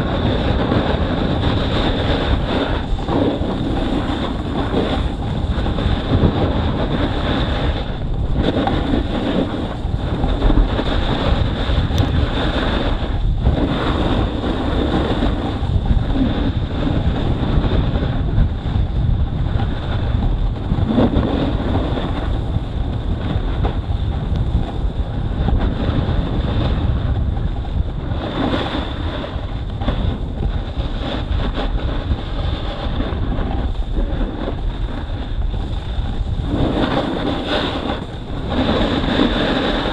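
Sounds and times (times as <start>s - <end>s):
snowboard scraping over snow: 0.0s - 39.9s
wind buffeting microphone: 0.0s - 39.9s.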